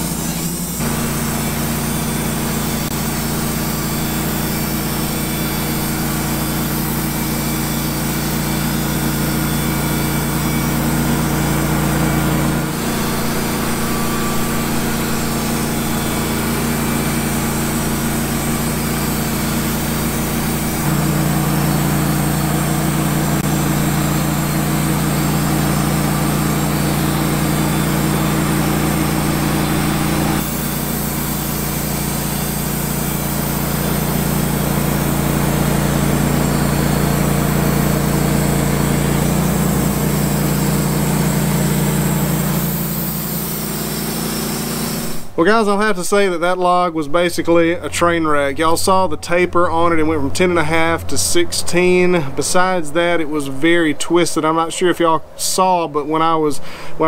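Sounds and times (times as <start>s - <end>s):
band sawmill cutting log: 0.0s - 45.8s
sawmill engine: 0.0s - 57.0s.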